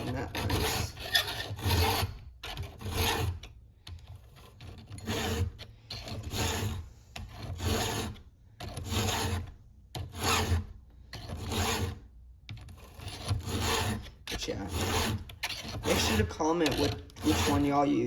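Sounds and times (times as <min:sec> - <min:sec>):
file rasping across saw chain: 0:00.0 - 0:18.0.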